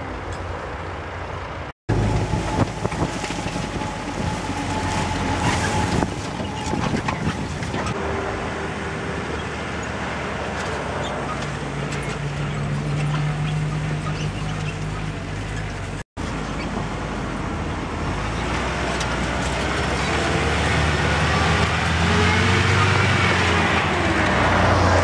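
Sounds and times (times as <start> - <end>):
jeep engine running: 0.0 - 25.0.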